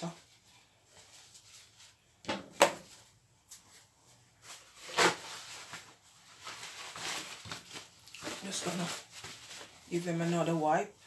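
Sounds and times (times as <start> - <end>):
paper towel rustling: 0.0 - 2.2, 2.8 - 11.0.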